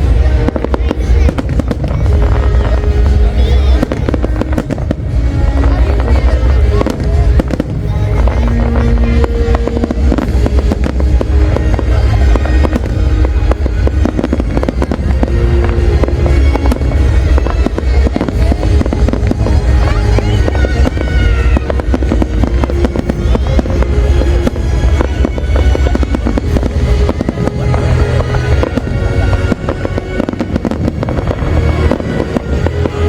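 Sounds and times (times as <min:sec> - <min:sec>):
deep rumble: 0:00.0 - 0:33.0
fireworks bangs: 0:00.0 - 0:33.0.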